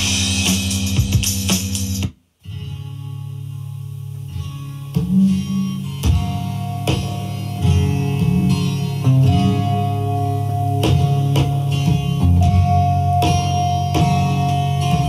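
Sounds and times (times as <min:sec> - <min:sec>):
guitar instrumental over loudspeaker: 0:02.5 - 0:15.0.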